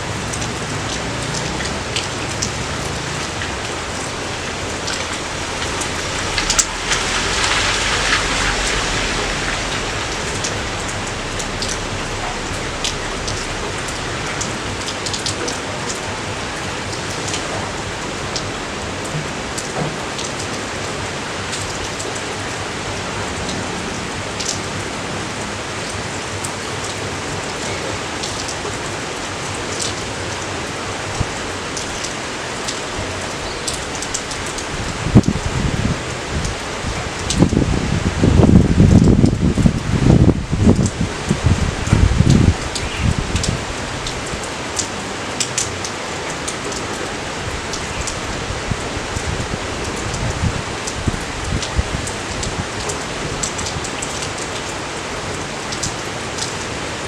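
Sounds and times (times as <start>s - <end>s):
raindrops ticking close by: 0.0s - 57.0s
steady rain falling: 0.0s - 57.0s.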